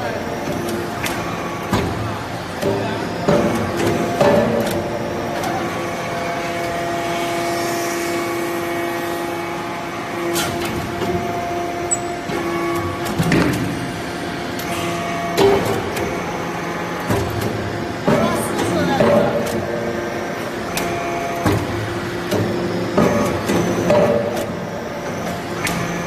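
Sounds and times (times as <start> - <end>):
hydraulic pump hum and whine: 0.0 - 26.0.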